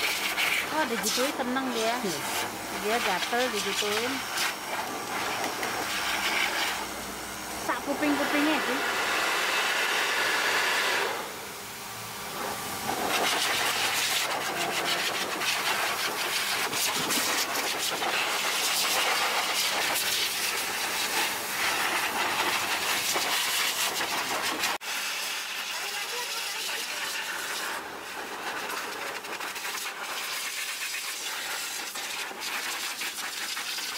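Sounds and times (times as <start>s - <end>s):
blow dryers rushing air: 0.0s - 29.2s.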